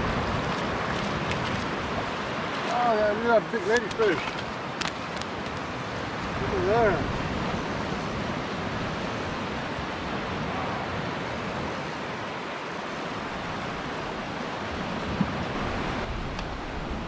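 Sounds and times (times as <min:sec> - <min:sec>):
small waves breaking: 0:00.0 - 0:17.0
wind on microphone: 0:00.0 - 0:17.0.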